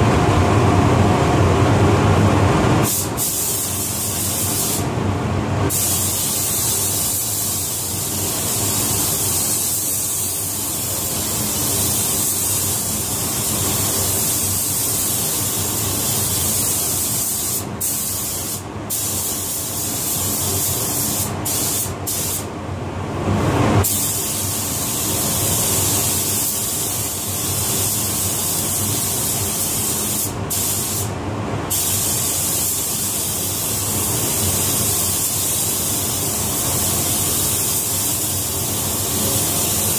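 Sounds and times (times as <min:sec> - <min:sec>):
paint spray gun hissing: 0:02.9 - 0:04.9, 0:05.7 - 0:22.5, 0:23.8 - 0:31.1, 0:31.7 - 0:39.9.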